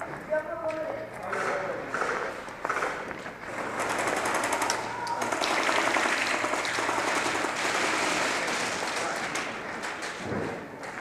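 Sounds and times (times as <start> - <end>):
airsoft guns firing full auto: 1.3 - 10.3.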